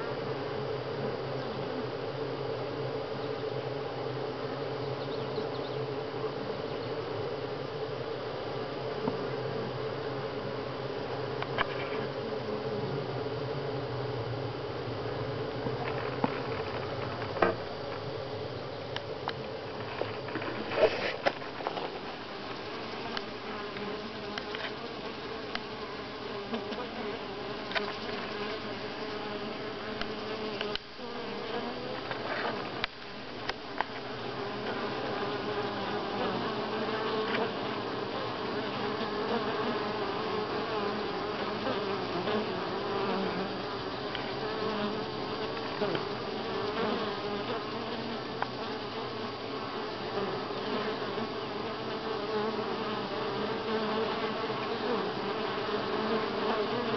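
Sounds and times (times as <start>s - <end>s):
honey bees buzzing: 0.0s - 56.9s.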